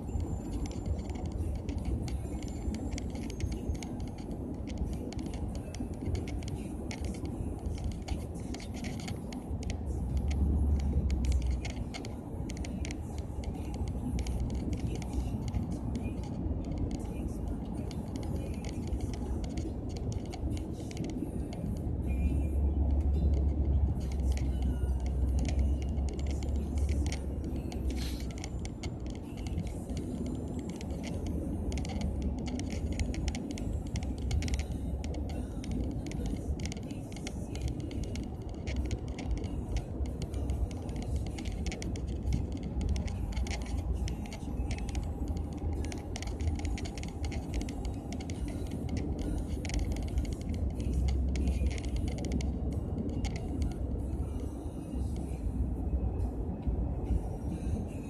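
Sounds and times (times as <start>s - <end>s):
light clicks and rattles: 0.0s - 55.6s
car engine and tyre rumble: 0.0s - 58.0s.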